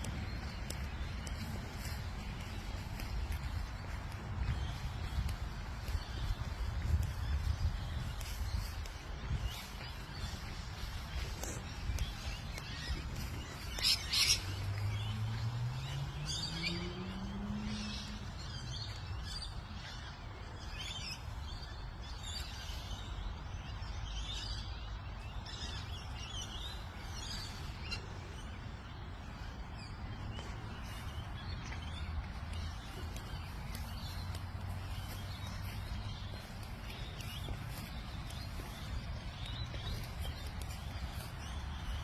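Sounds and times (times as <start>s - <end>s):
birds chirping and calling: 0.0s - 42.0s.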